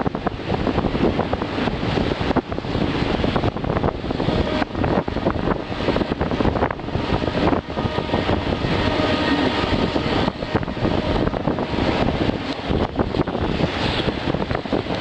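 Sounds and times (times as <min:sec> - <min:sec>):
train rumble and clatter: 0:00.0 - 0:15.0
wind buffeting microphone: 0:00.0 - 0:15.0.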